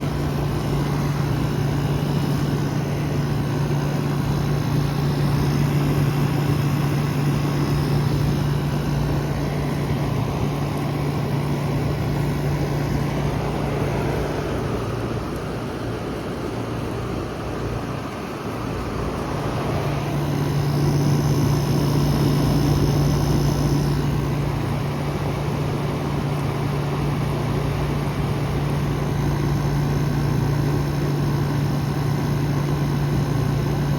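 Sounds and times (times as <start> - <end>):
compressor electrical hum: 0.0 - 33.9
fan whoosh: 0.0 - 33.9.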